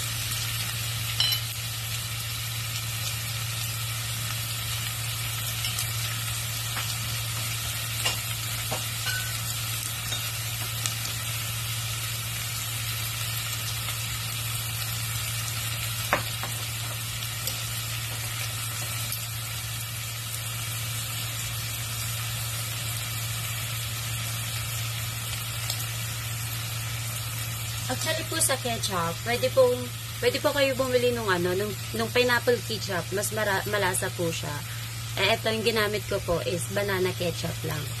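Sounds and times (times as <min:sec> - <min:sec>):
meat sizzling in a saucepan: 0:00.0 - 0:38.0.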